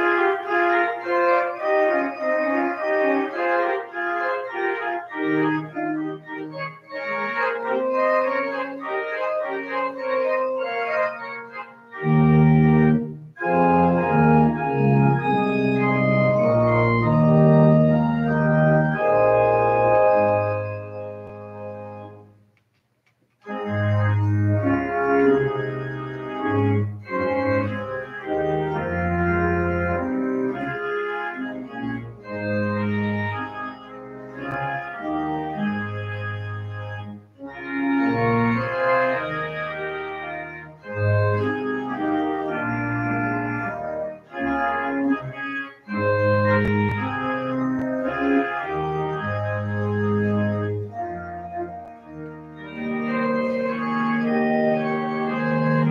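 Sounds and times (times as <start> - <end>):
organ playing slow chords: 0.0 - 22.3, 23.4 - 55.9.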